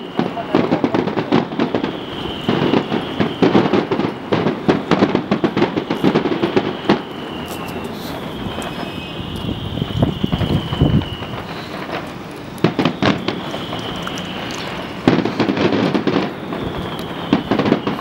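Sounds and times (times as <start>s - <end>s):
descending high whistle: 0.0s - 18.0s
fireworks crackling bangs: 0.0s - 18.0s.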